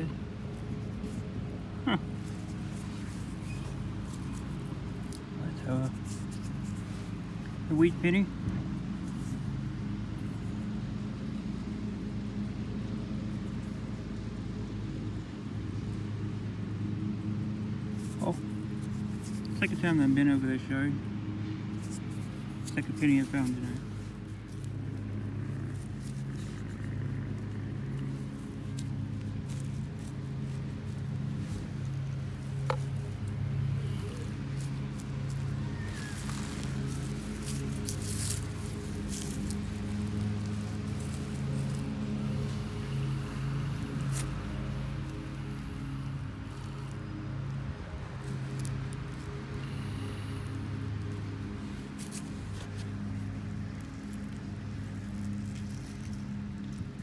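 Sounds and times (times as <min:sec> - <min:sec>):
low mechanical drone: 0:00.0 - 0:57.0
steady low hum: 0:00.0 - 0:57.0.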